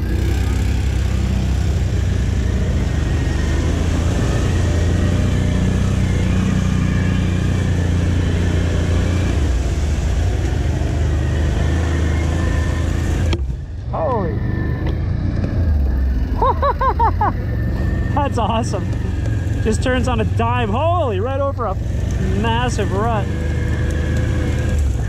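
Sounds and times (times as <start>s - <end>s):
quad engine running: 0.0s - 25.0s.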